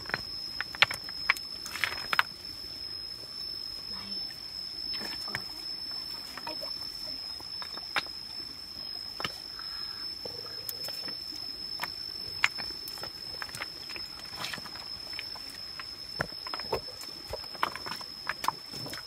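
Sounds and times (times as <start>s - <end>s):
steady high-pitched tone: 1.9s - 18.0s.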